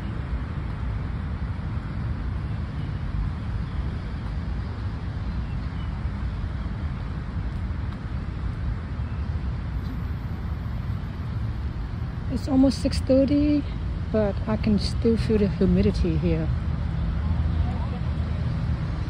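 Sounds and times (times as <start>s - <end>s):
distant road traffic: 0.0s - 19.0s.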